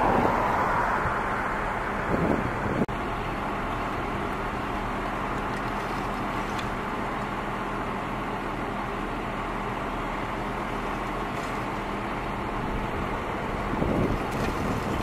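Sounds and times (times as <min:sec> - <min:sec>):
constant low hum: 0:00.0 - 0:15.0
emergency vehicle engines idling: 0:00.8 - 0:15.0.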